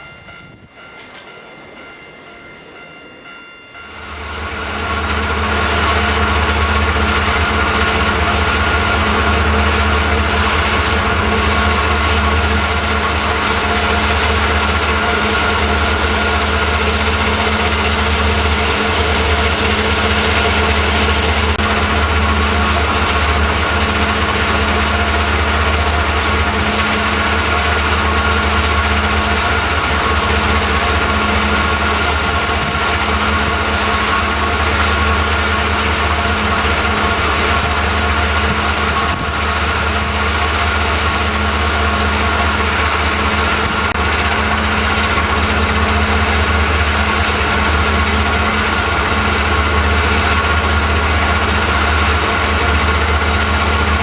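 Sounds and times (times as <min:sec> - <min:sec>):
locomotive engine droning: 0:00.0 - 0:54.0.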